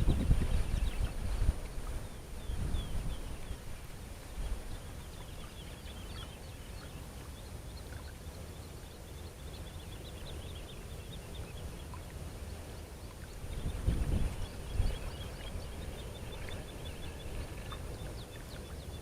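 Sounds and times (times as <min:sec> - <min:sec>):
wind rumbling on microphone: 0:00.0 - 0:06.7, 0:09.6 - 0:19.0
small birds chirping: 0:00.0 - 0:19.0.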